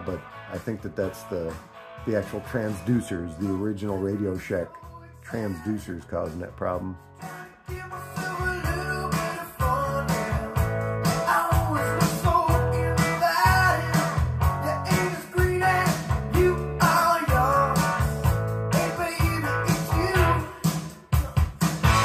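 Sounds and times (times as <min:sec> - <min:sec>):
song with guitar over speakers: 0:00.0 - 0:22.0
person singing: 0:02.1 - 0:22.0.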